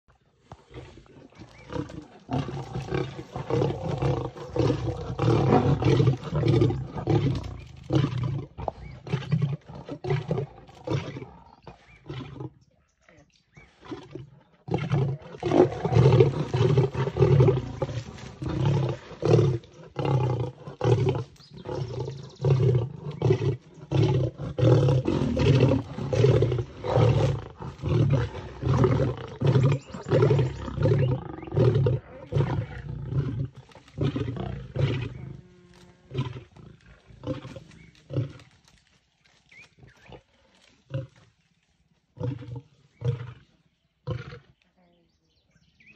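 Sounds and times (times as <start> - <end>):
lions growling and snarling: 0.3 - 44.6.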